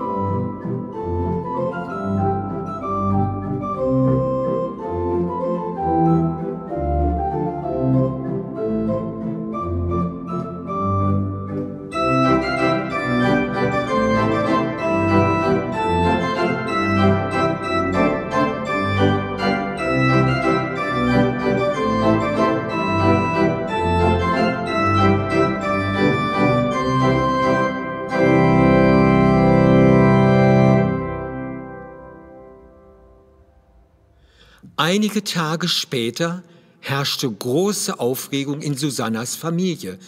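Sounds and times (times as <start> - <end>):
church organ playing: 0.0 - 33.8.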